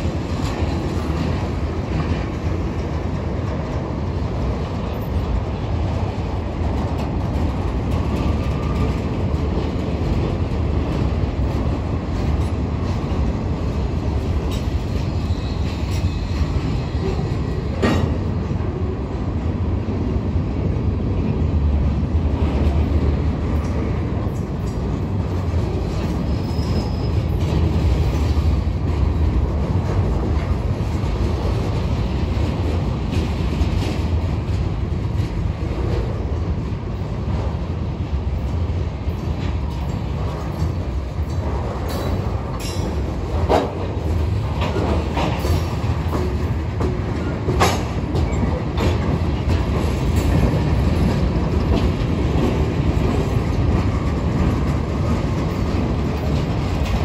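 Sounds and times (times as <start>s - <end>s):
freight train rolling: 0.0s - 57.0s.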